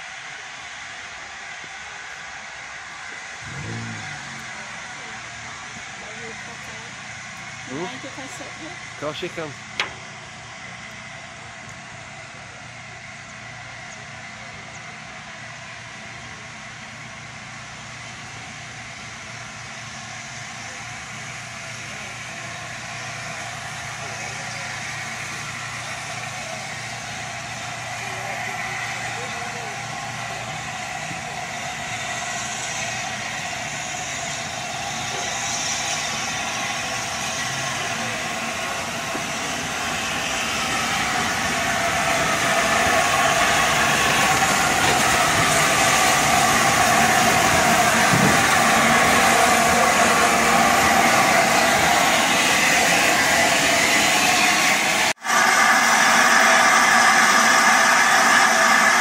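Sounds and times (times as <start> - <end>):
steam locomotive running past: 0.0 - 59.0.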